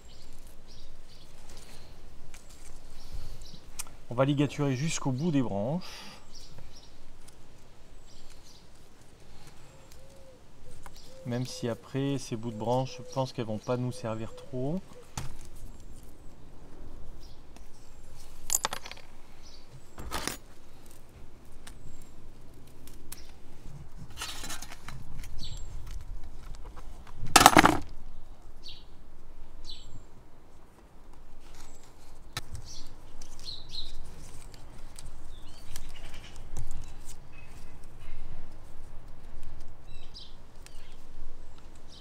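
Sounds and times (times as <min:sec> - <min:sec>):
leaves and branches rustling: 0:00.0 - 0:42.0.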